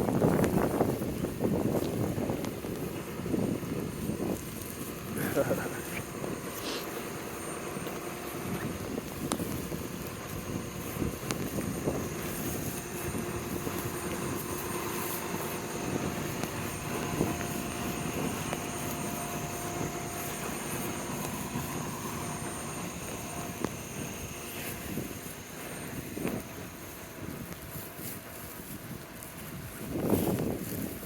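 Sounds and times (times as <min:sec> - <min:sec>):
vehicle engine humming: 0:00.0 - 0:31.0
wind noise: 0:00.0 - 0:31.0.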